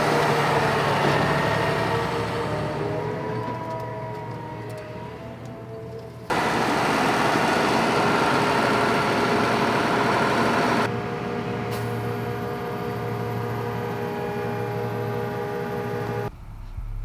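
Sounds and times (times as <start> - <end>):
combine harvester running: 0.0 - 3.8, 6.0 - 16.3.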